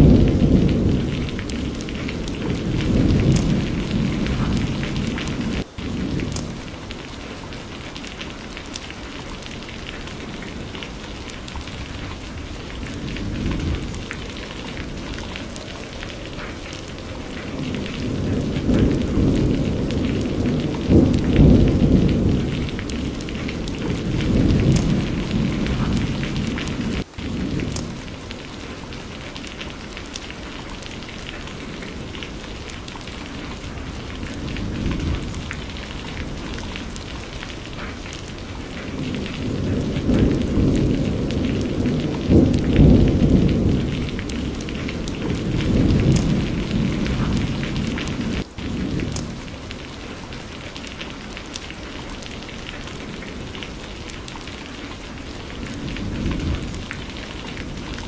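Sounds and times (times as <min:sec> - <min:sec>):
rolling thunder: 0:00.0 - 0:08.8, 0:09.4 - 0:51.0, 0:52.2 - 0:58.0
steady rain: 0:00.0 - 0:58.0.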